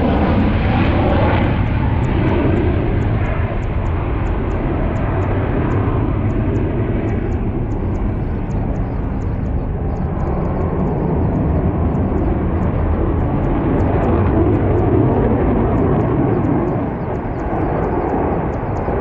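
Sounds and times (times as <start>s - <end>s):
aircraft engine rumble: 0.0s - 19.0s.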